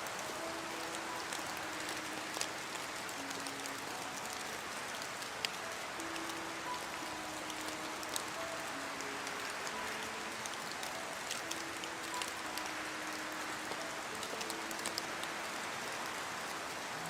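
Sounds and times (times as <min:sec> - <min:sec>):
faint background music: 0:00.0 - 0:17.0
rain hissing: 0:00.0 - 0:17.0
raindrops ticking: 0:00.0 - 0:17.0.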